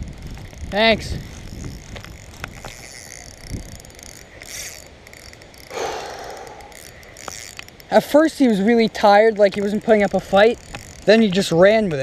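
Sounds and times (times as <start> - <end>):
fishing reel clicking: 0.0 - 12.0.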